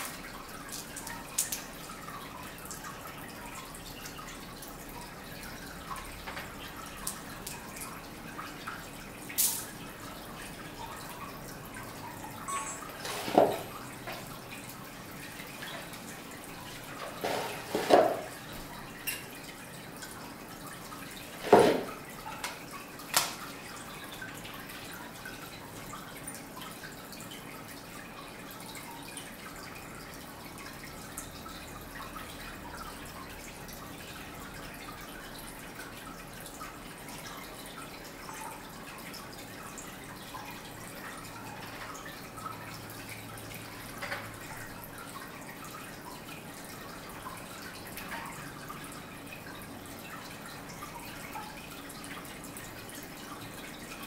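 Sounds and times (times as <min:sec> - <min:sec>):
water dripping: 0:00.0 - 0:54.0
water trickling: 0:00.0 - 0:54.0.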